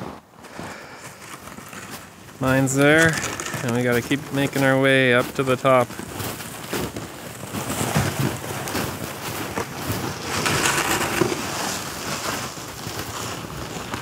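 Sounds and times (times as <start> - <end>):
footsteps crunching in snow: 0.0 - 14.0
toboggans scraping over snow: 0.1 - 14.0.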